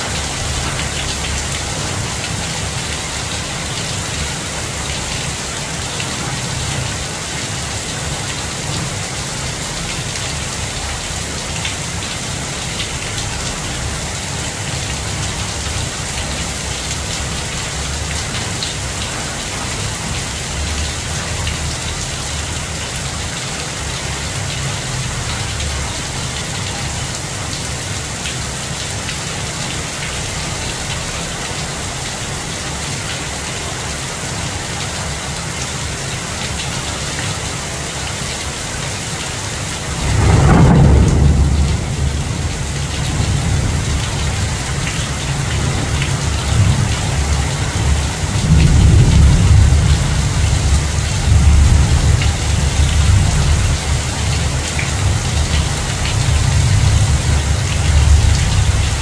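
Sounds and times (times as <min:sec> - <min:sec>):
heavy rain on tree leaves: 0:00.0 - 0:59.0.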